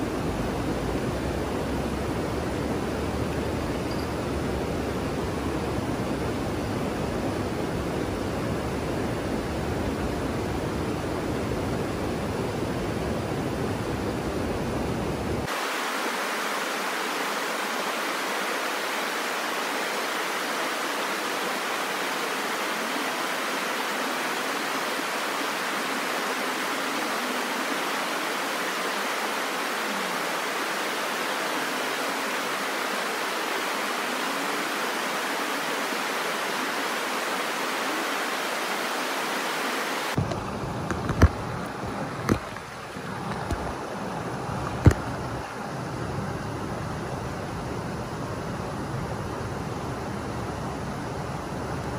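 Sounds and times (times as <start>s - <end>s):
stream rushing over rocks: 0.0s - 51.9s.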